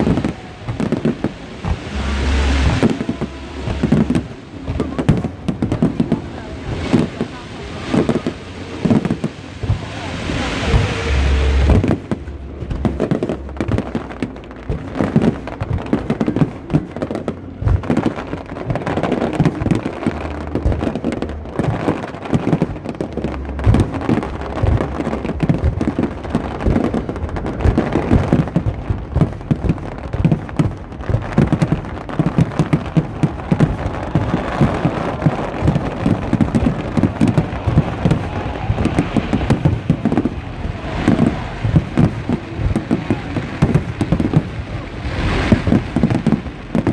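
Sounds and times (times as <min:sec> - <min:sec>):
fireworks crackling: 0:00.0 - 0:46.9
heavy fireworks booms: 0:00.0 - 0:46.9.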